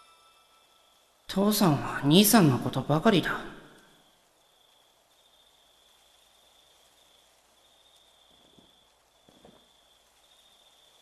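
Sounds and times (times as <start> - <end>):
faint insects trilling: 0.0 - 11.0.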